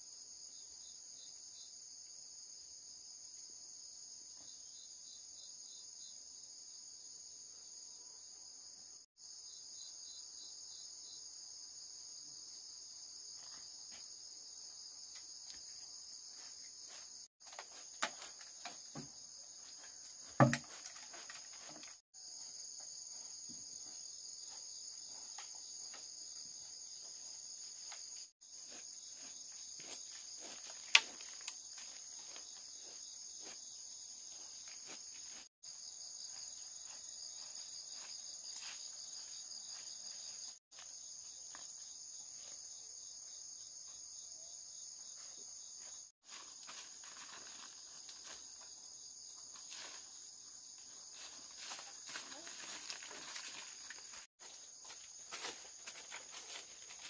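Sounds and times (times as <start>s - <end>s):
insects chirring: 0.1s - 57.0s.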